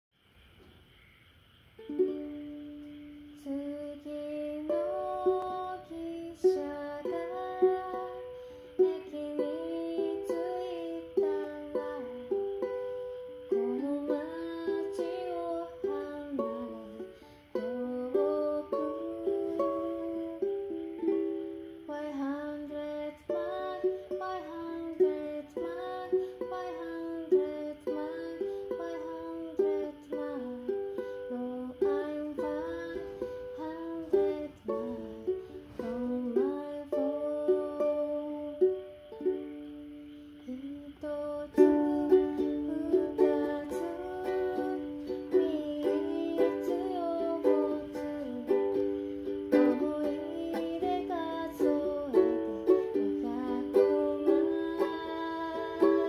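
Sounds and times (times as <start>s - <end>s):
fingerpicked ukulele melody: 1.8s - 56.0s.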